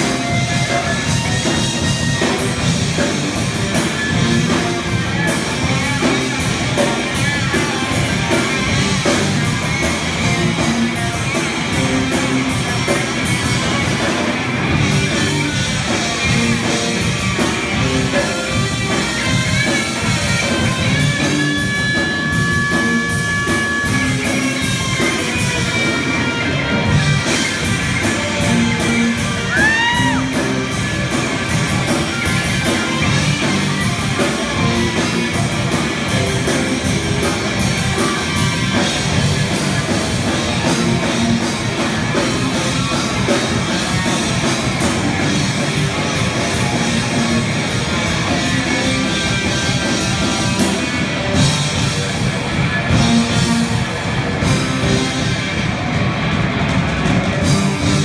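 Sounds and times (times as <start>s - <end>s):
bass: 0.0s - 58.0s
drums with busy cymbals: 0.0s - 58.0s
electric guitar lead notes: 0.0s - 58.0s
keyboard: 0.0s - 58.0s.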